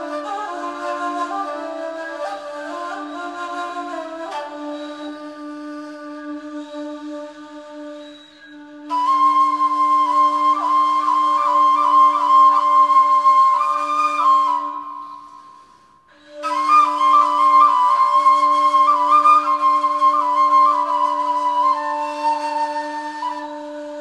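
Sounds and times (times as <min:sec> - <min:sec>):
flutes playing a melody: 0:00.0 - 0:24.0.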